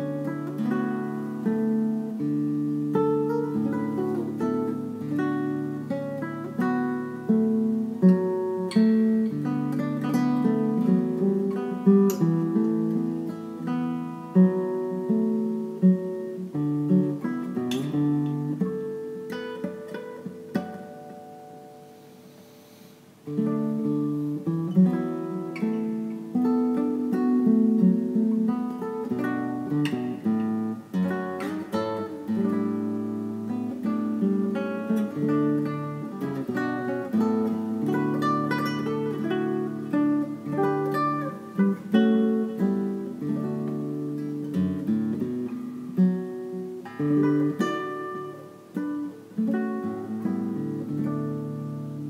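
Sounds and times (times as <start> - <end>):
classical guitar playing: 0.0 - 52.0.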